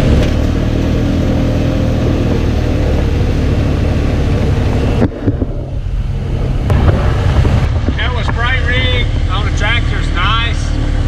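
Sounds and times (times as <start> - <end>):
vehicle engine running: 0.0 - 11.0
wind and tyre noise: 0.0 - 11.0.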